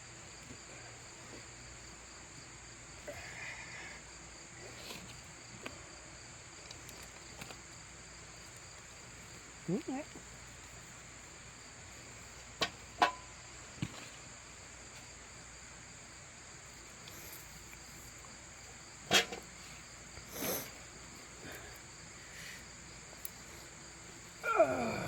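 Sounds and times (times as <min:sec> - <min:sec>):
crickets chirring: 0:00.0 - 0:25.0
rustle of soil: 0:04.2 - 0:25.0.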